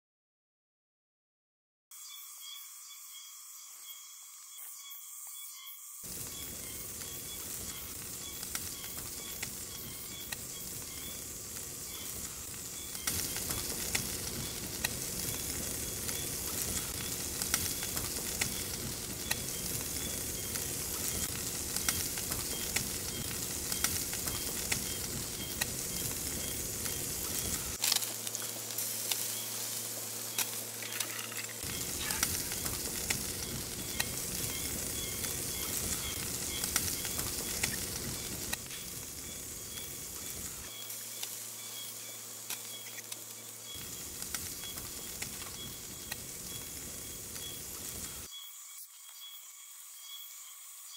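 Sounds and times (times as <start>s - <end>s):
food sizzling in a pan: 2.0s - 50.9s.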